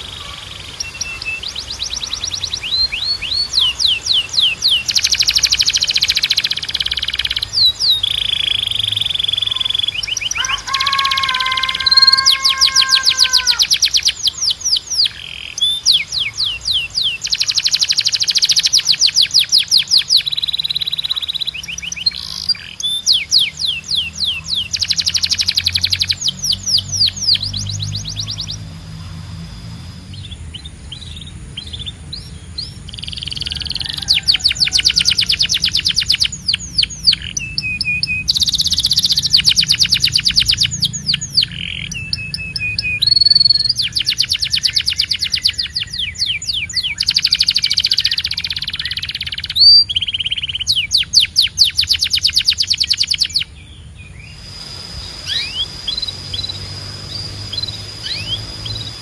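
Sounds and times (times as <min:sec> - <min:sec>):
canary singing trills: 0:00.0 - 0:59.0
faint bird chirps: 0:00.0 - 0:59.0.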